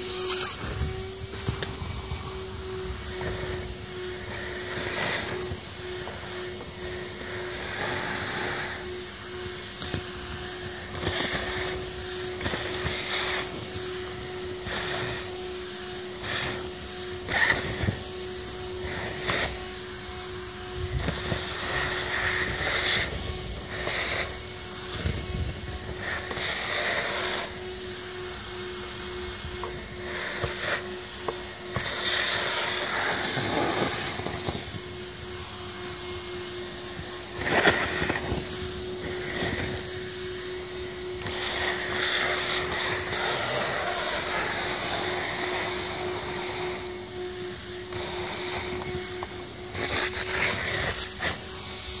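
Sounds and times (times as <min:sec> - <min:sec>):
gutter vacuum humming: 0:00.0 - 0:52.0.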